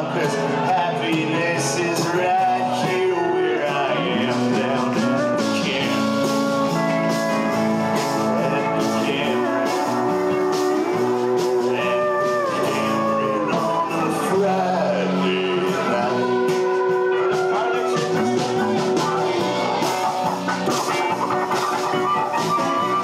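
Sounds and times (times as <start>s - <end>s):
folk-rock band playing: 0.0s - 23.0s.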